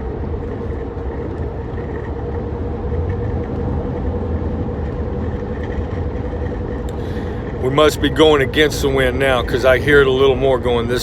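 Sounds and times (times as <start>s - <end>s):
road and wind noise in vehicle: 0.0s - 11.0s
wind whistling at window: 0.0s - 11.0s.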